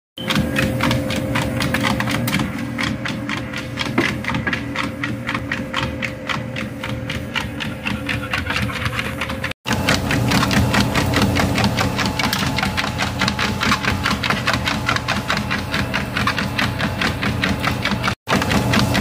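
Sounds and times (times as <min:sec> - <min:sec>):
dog paws striking treadmill belt: 0:00.2 - 0:19.0
treadmill motor hum: 0:00.2 - 0:19.0.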